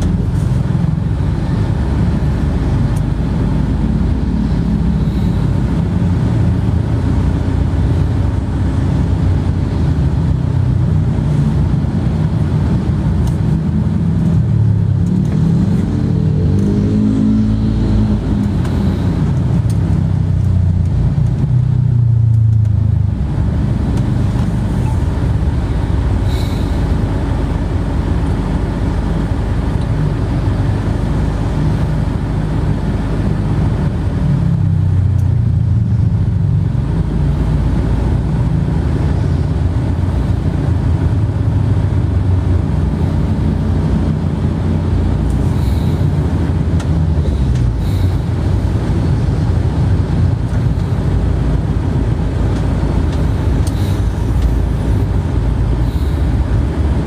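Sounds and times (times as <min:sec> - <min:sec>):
loud low rumble: 0:00.0 - 0:57.0.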